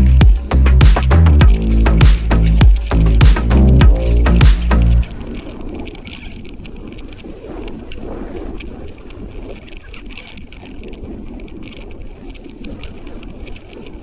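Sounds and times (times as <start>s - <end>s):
raindrops ticking: 0.0s - 8.0s, 8.6s - 14.0s
wind rumbling on microphone: 0.0s - 14.0s.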